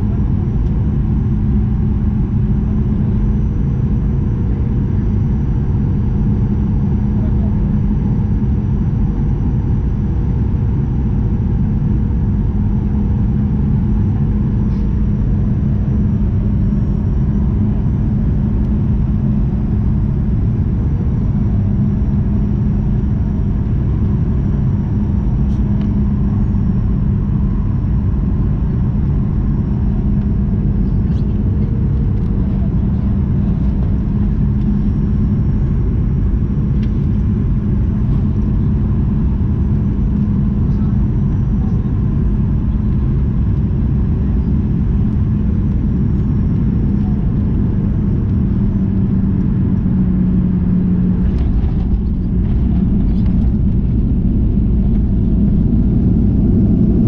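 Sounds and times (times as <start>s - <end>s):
airplane cabin roar: 0.0s - 57.0s
constant hum: 0.0s - 57.0s.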